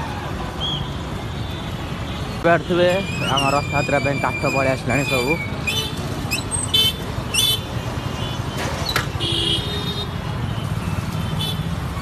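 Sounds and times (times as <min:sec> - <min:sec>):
motorbike engines passing: 0:02.2 - 0:12.0.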